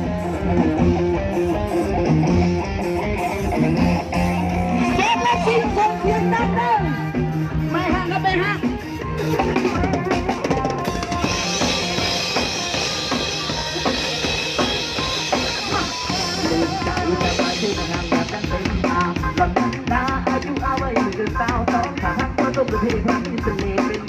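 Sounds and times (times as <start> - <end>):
drum kit beat: 0.0 - 24.0
live band playing: 0.0 - 24.0.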